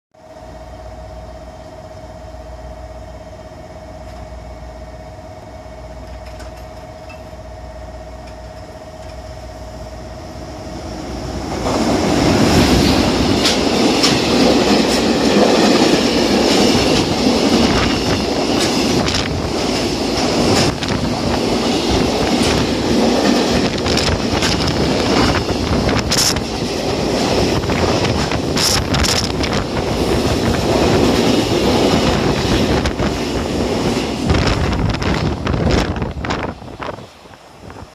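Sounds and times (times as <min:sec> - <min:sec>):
train wheels rumbling and rattling: 0:03.3 - 0:37.9.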